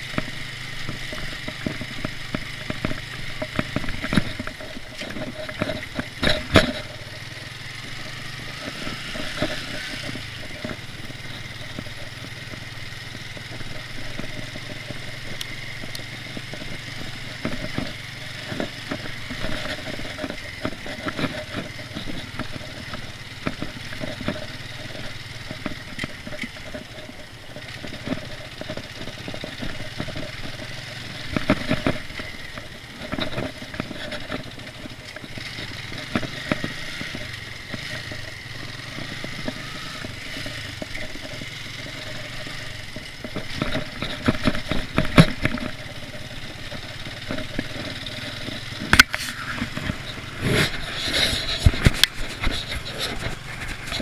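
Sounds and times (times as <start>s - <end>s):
motorcycle engine running: 0.0s - 54.0s
sharp clicks and knocks: 0.0s - 54.0s.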